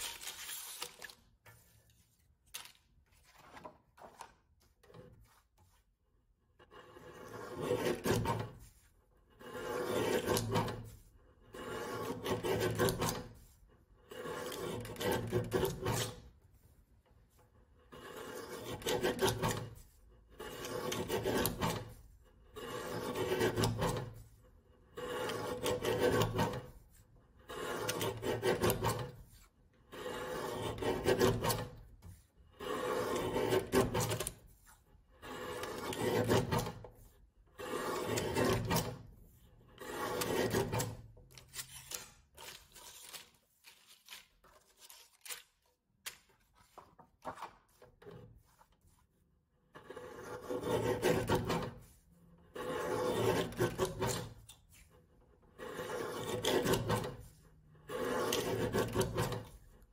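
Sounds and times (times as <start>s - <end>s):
paper cutter shearing paper: 0.0s - 59.9s.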